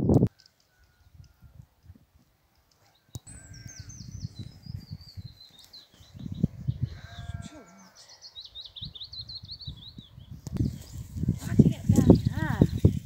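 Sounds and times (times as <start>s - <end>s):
songbird chirping: 0.2s - 13.0s.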